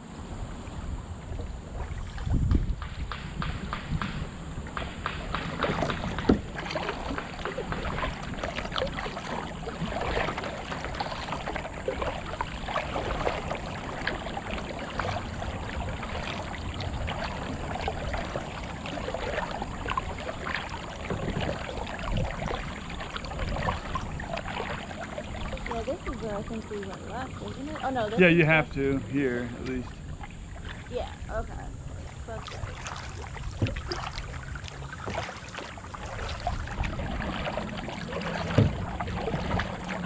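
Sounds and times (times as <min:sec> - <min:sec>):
kayak paddles splashing in water: 0:00.0 - 0:40.0.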